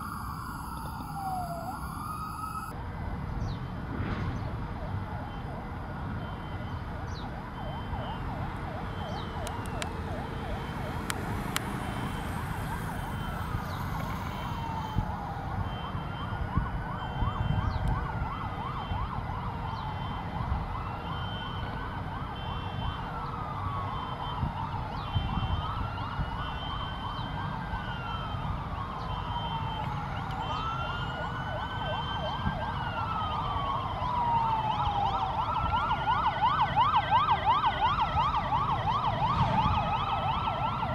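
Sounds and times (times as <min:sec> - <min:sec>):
warbling yelp siren: 0:00.0 - 0:02.8, 0:04.7 - 0:40.9
wailing siren: 0:00.0 - 0:40.9.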